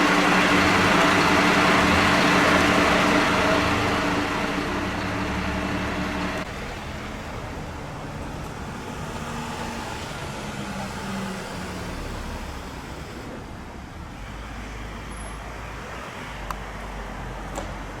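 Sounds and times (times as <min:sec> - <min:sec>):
vehicle engines running: 0:00.0 - 0:14.6
street traffic noise: 0:00.0 - 0:18.0.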